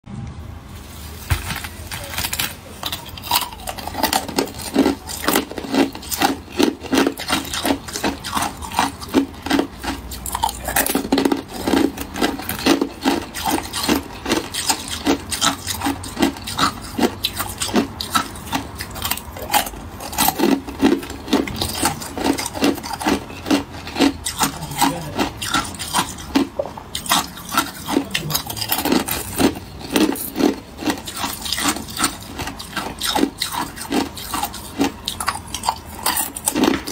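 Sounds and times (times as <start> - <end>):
ice being chewed: 2.0 - 36.9.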